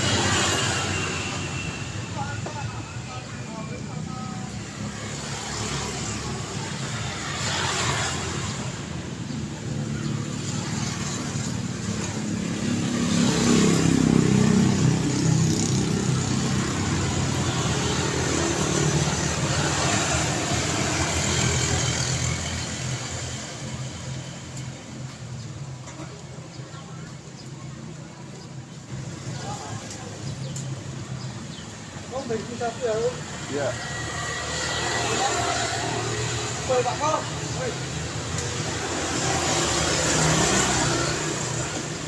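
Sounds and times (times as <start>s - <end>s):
road traffic passing: 0.0s - 42.0s.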